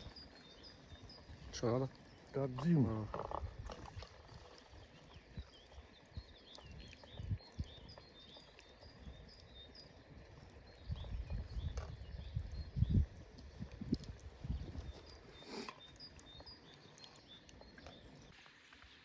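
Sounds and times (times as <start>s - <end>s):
small birds chirping: 0.0s - 18.4s.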